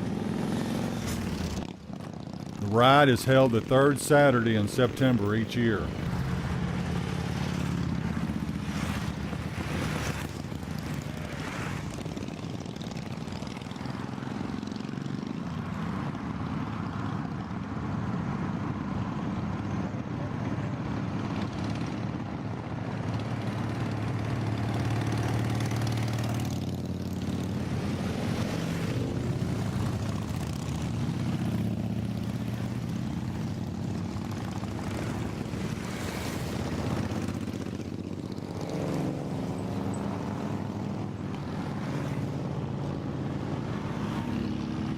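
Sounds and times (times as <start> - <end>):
motorcycles passing: 0.0 - 44.9
road noise: 0.0 - 44.9
vehicle engine drone: 0.0 - 44.9.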